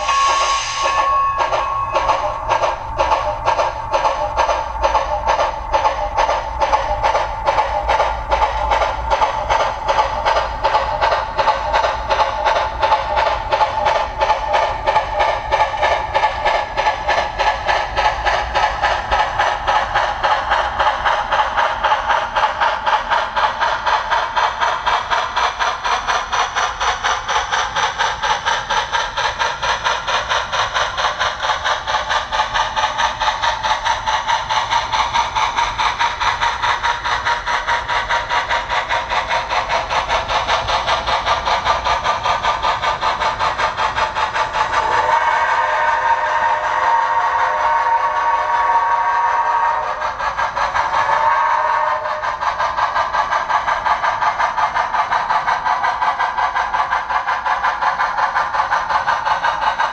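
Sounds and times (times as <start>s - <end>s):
steam exhaust chuff from speaker: 0.0s - 59.9s.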